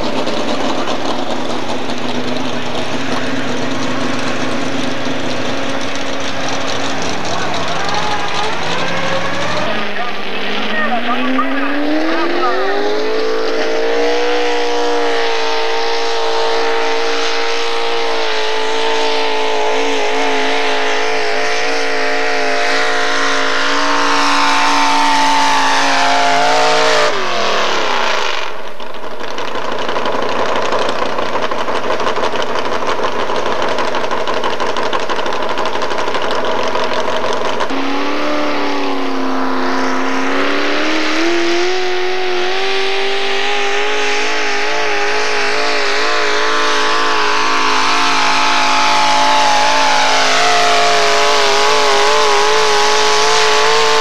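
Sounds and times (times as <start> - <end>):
truck engine revving under load: 0.0 - 54.0.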